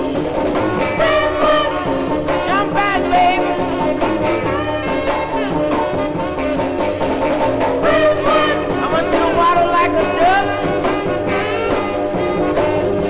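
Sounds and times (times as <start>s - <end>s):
rhythm and blues band music: 0.0s - 13.0s.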